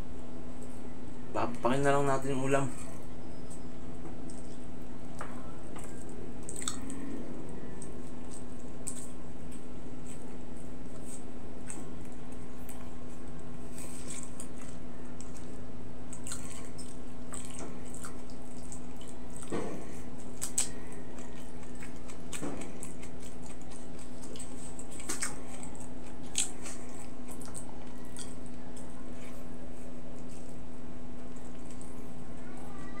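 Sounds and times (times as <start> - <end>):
wet chewing and lip-smacking: 4.2 - 32.2.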